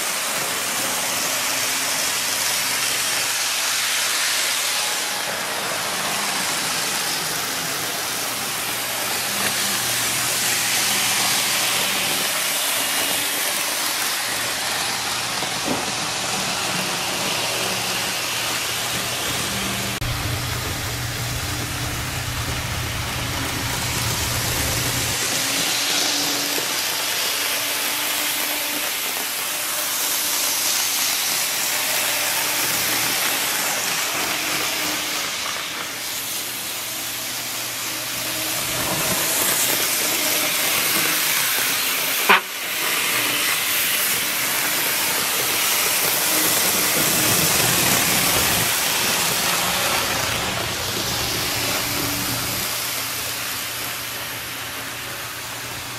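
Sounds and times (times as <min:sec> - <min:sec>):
model train low hum: 0:00.0 - 0:55.9.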